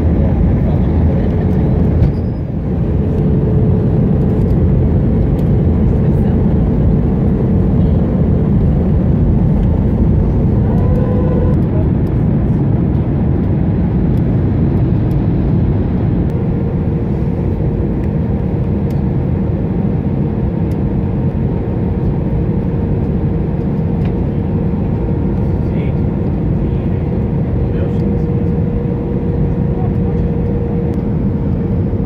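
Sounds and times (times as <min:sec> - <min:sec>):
airliner engines and rushing air: 0:00.0 - 0:32.0.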